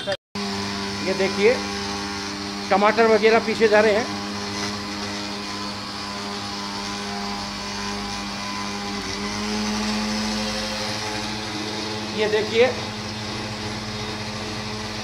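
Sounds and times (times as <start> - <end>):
mixer grinder motor hum: 0.0 - 15.0.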